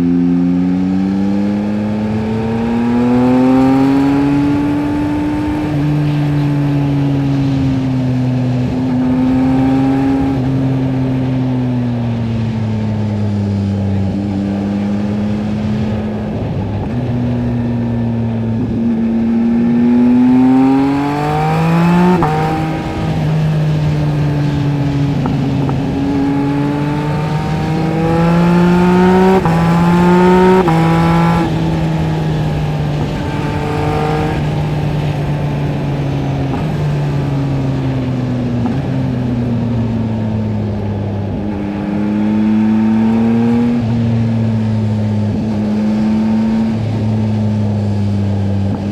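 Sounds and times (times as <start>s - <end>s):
motorcycle engine revving through gears: 0.0s - 48.9s.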